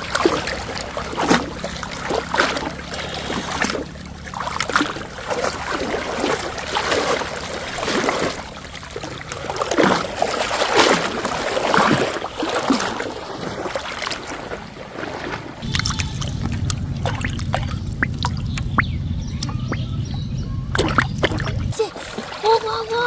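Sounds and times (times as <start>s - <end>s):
shallow water sloshing: 0.0s - 23.0s.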